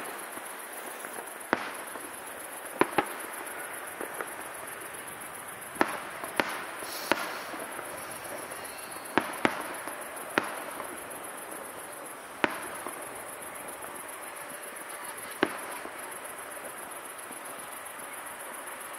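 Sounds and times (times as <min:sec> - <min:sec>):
distant firework bangs: 0:00.0 - 0:17.6.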